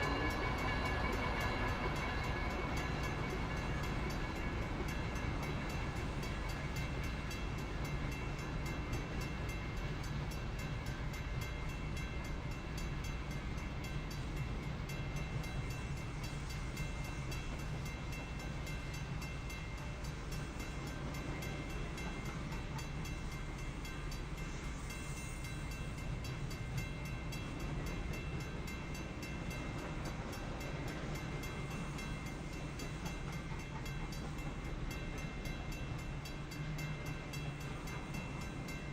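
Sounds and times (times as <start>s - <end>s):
crossing bell ringing: 0.0s - 38.9s
freight train rumbling: 0.0s - 38.9s.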